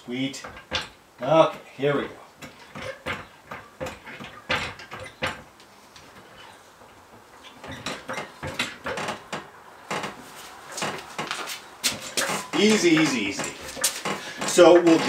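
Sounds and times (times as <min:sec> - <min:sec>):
car jack clicks and clunks: 0:00.4 - 0:01.7, 0:02.4 - 0:15.0.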